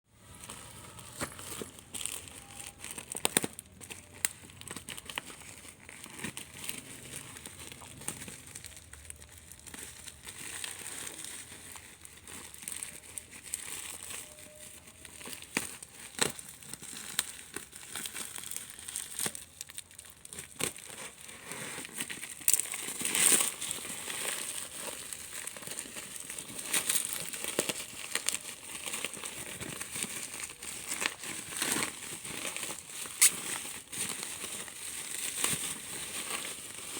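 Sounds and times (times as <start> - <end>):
packaging crinkling and crackling: 0.1 - 36.9.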